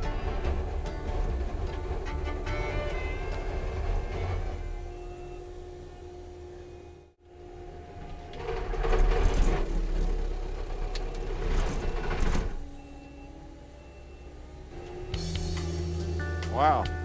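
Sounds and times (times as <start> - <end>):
machine running steady hum: 0.0 - 17.0.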